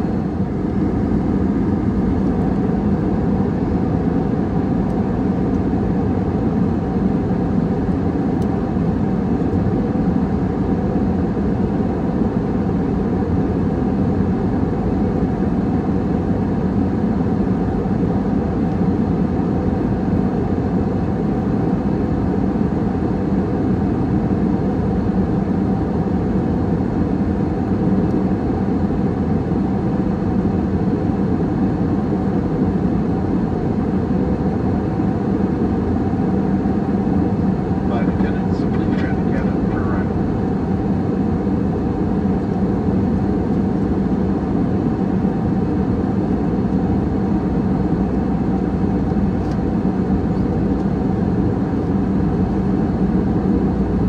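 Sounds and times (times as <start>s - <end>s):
faint steady hum: 0.0s - 54.0s
jet cabin engine rush: 0.0s - 54.0s.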